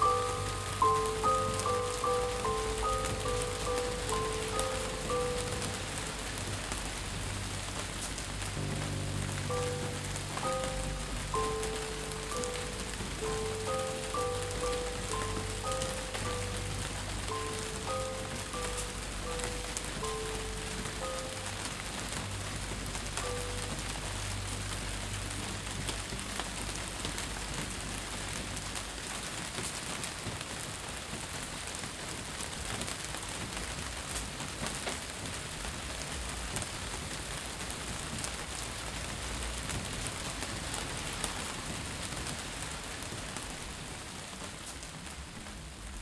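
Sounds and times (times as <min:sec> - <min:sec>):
rain on wet paving: 0:00.0 - 0:46.0.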